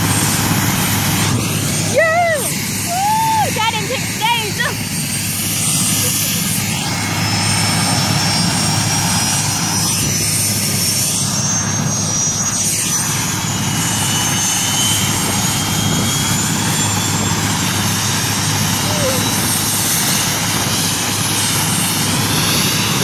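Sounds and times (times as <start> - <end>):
helicopter engine and rotor noise: 0.0 - 23.0
high turbine whine: 0.0 - 23.0.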